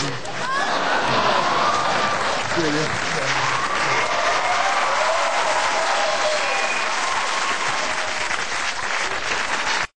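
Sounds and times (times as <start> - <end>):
audience applauding: 0.0 - 9.9
audience cheering: 0.3 - 9.9.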